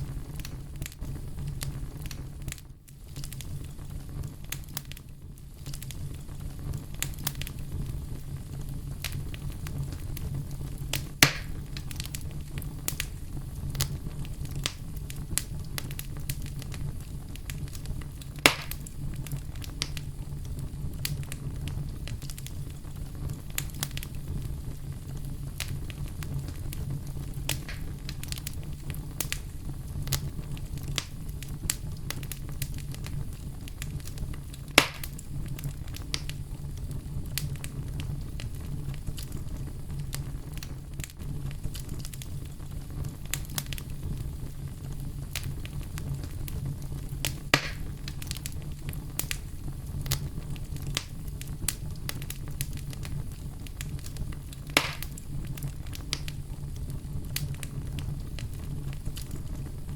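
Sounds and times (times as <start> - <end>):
campfire burning and crackling: 0.0 - 59.9
loud fire pops: 0.0 - 59.9.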